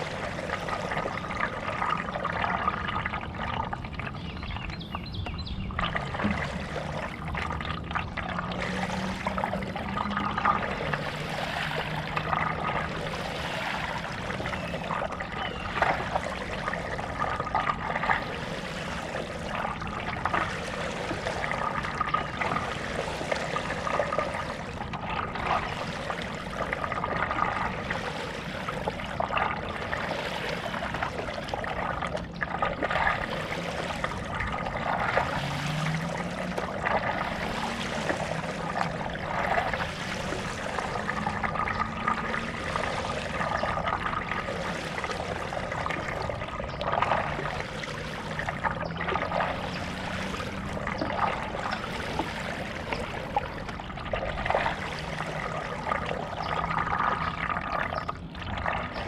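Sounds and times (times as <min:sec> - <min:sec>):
paddle splashing in water: 0:00.0 - 0:59.0.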